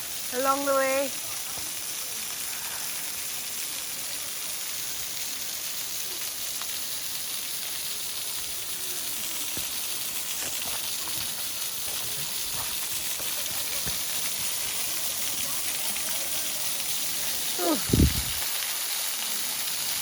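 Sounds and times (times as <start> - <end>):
waterfall hissing: 0.0 - 20.0.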